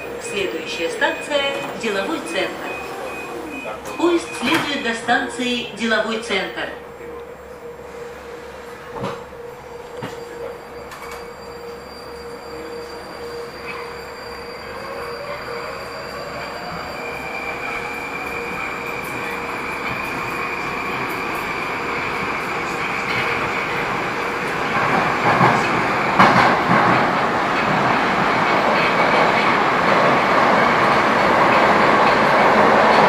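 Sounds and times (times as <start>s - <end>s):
metro train running noise: 0.0s - 33.0s.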